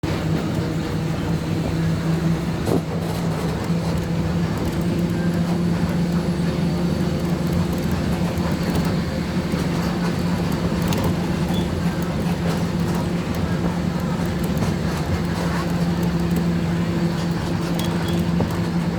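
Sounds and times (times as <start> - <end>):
road noise: 0.0 - 18.9
vehicle engine running: 0.0 - 18.9.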